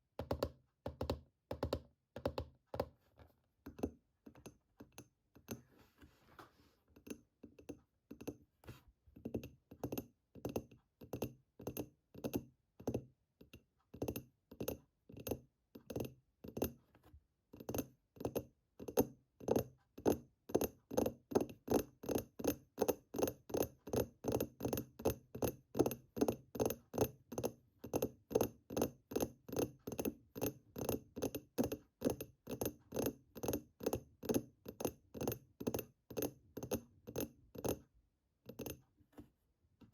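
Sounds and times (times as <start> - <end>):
fingers tapping on hard object: 0.2 - 3.0, 3.6 - 5.6, 7.0 - 8.4, 9.2 - 16.8, 17.5 - 38.8.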